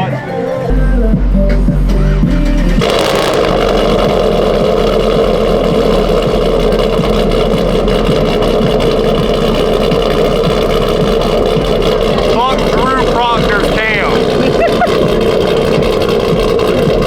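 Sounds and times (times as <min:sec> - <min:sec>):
vehicle engine running: 0:00.7 - 0:17.0.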